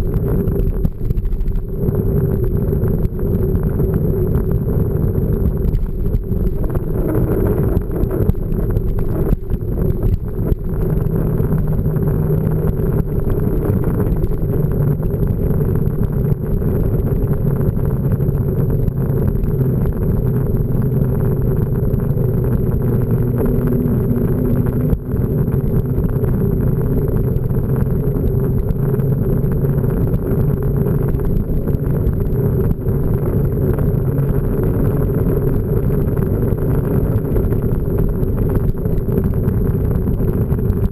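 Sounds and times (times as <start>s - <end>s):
mountain bike rumble: 0.0s - 40.9s
tyres humming on trail: 0.0s - 40.9s
wind buffeting microphone: 0.0s - 40.9s.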